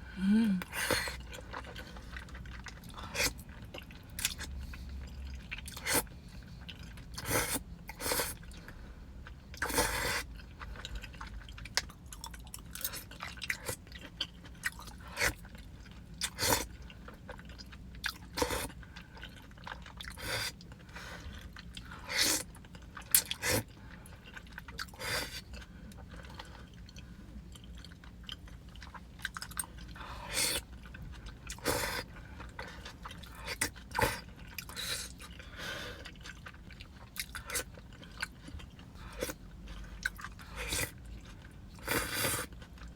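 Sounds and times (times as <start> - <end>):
chewing pasta: 0.6 - 42.9.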